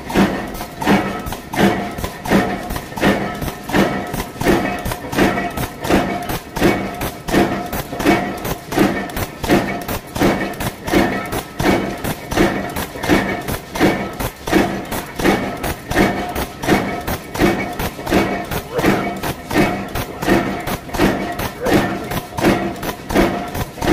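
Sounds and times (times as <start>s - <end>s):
power press thuds: 0.0s - 23.9s
steady machine hum: 0.0s - 23.9s.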